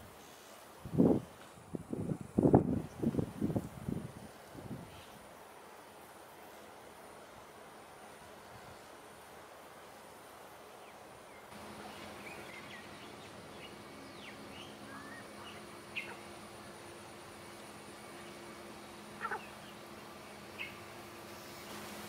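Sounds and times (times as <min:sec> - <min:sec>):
faint outdoor hiss: 0:00.0 - 0:22.0
steady low hum: 0:00.0 - 0:22.0.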